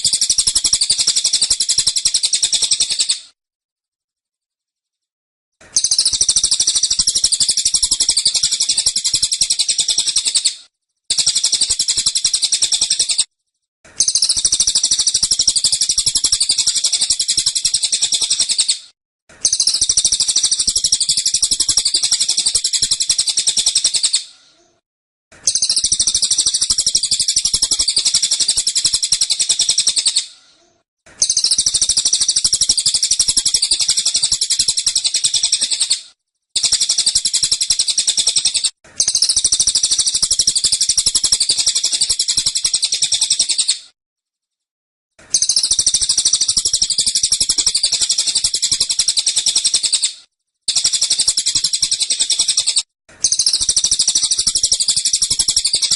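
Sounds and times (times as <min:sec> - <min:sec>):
songbird rapid high-pitched chattering: 0:00.0 - 0:03.2, 0:05.8 - 0:13.3, 0:14.0 - 0:18.8, 0:19.4 - 0:24.2, 0:25.4 - 0:30.3, 0:31.2 - 0:36.0, 0:36.6 - 0:43.8, 0:45.3 - 0:50.1, 0:50.7 - 0:55.9.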